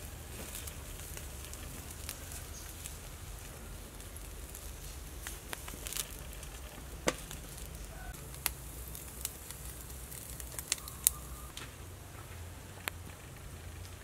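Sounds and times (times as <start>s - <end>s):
charcoal fire crackling: 0.0s - 14.0s.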